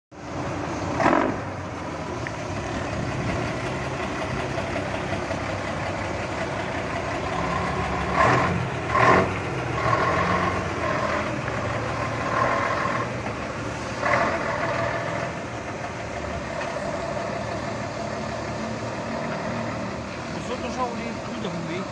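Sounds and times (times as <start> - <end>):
truck engine running: 0.1 - 21.9.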